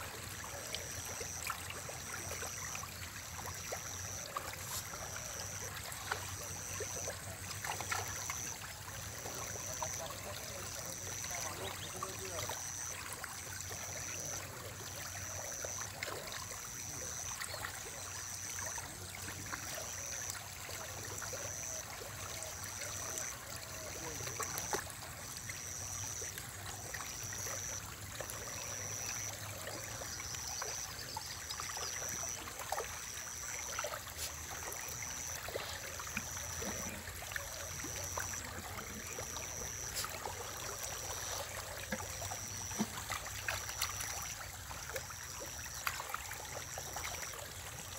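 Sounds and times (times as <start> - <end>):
water trickling and lapping: 0.0 - 47.9.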